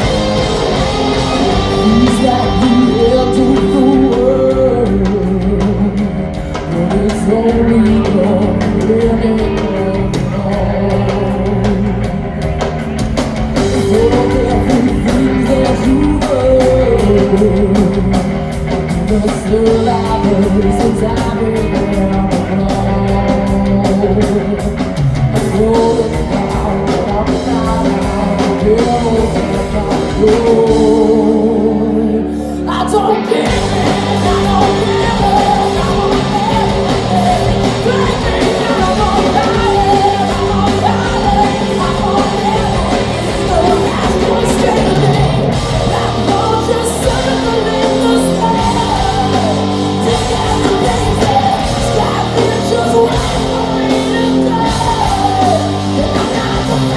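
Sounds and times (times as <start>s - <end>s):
bass guitar: 0.0s - 56.9s
distorted electric guitar: 0.0s - 56.9s
drums: 0.0s - 56.9s
woman singing lead vocals: 0.0s - 56.9s.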